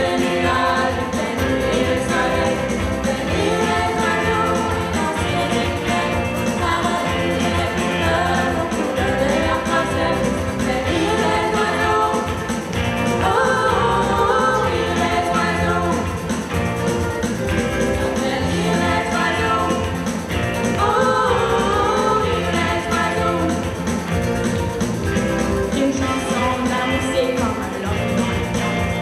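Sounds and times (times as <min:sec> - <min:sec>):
live band playing: 0:00.0 - 0:29.0
women singing: 0:00.0 - 0:29.0.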